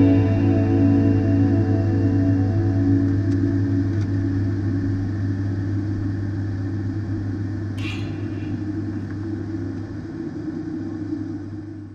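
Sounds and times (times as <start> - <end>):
turboprop engines droning: 0.0 - 11.9.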